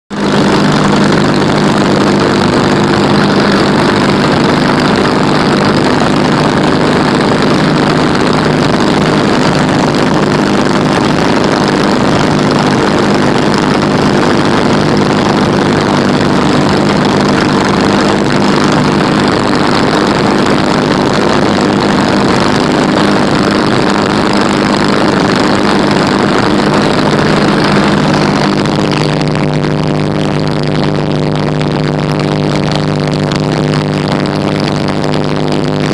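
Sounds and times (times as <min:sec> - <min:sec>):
light aircraft engine and propeller: 0:00.1 - 0:35.9.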